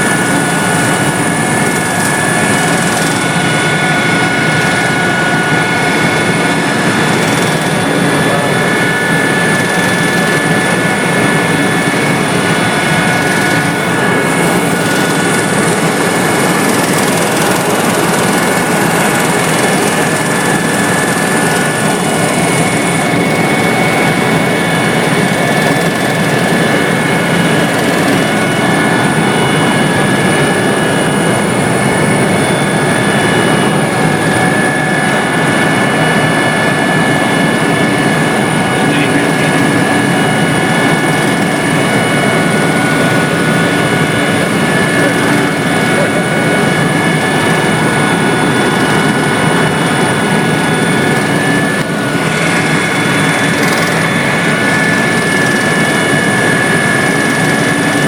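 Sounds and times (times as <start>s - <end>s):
helicopter engine and rotor: 0.0s - 58.0s
high-pitched whine: 0.0s - 58.0s.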